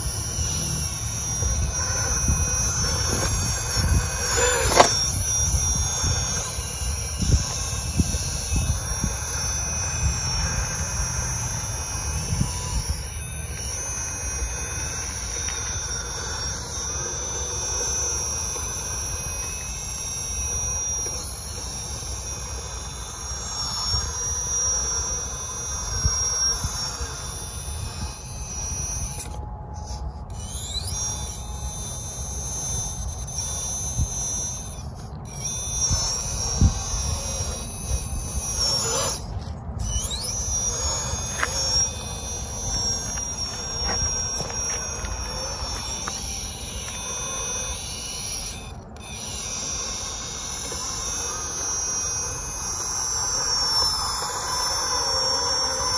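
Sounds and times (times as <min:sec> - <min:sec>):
toy truck motor whining: 0:00.0 - 0:55.9.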